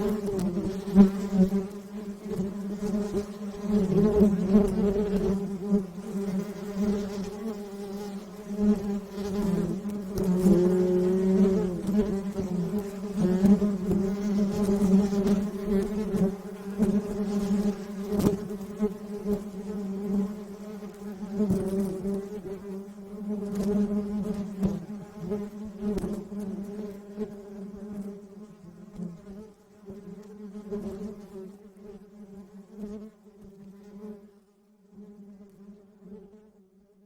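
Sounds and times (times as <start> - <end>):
bee swarm buzzing: 0.0 - 33.0.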